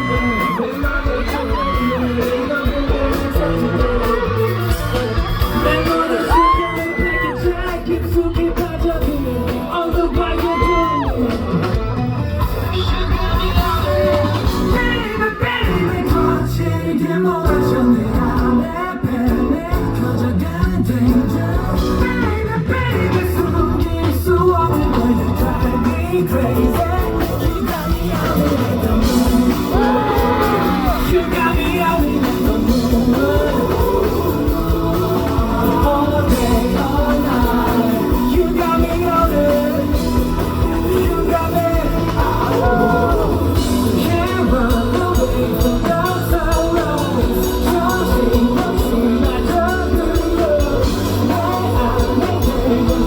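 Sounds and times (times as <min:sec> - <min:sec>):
loud backing music with beat: 0:00.0 - 0:53.0
man singing: 0:00.0 - 0:53.0.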